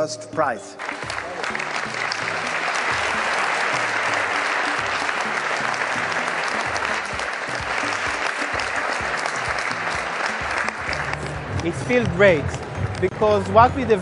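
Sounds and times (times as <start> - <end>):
audience applauding: 0.8 - 14.0.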